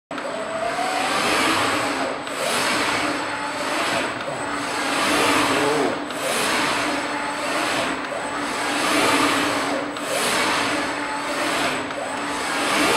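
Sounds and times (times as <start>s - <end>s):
cnc machine servo axes whining: 0.1s - 12.9s.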